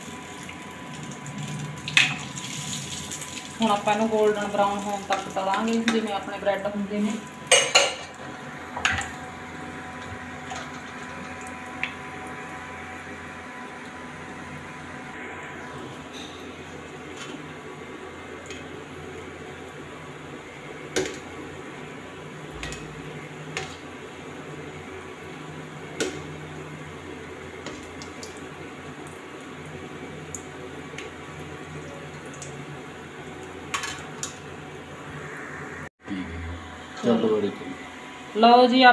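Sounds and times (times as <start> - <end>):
oil sizzling while deep-frying: 0.0 - 35.9.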